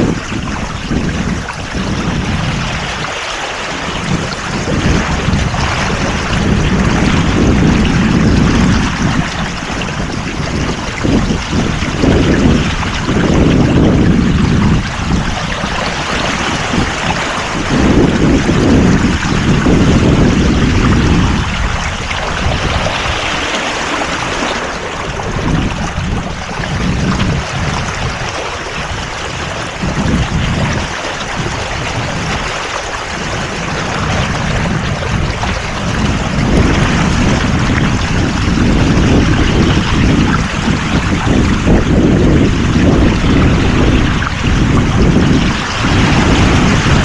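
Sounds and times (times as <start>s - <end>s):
water washing against boat: 0.0s - 47.0s
wind buffeting microphone: 0.0s - 47.0s.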